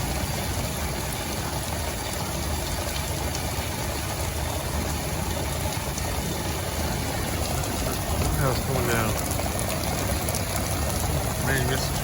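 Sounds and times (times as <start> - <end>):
rainstorm: 0.0 - 12.0.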